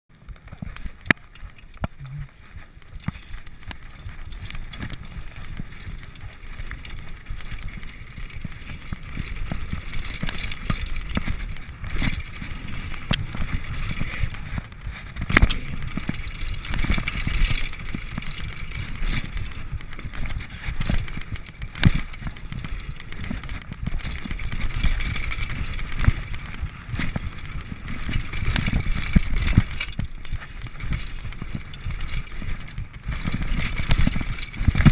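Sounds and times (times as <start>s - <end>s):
bike tyres rumbling on dirt: 0.1s - 34.9s.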